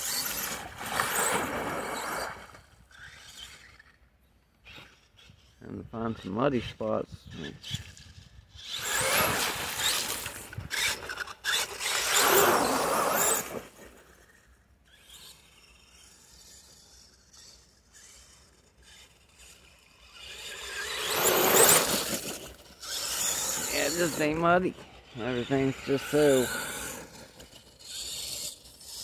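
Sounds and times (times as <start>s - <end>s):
rc truck motor whining: 0.0s - 29.0s.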